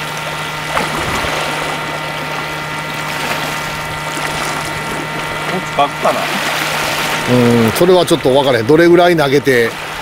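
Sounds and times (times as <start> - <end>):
sea water washing against rocks: 0.0 - 8.4
steady low hum: 0.0 - 10.0.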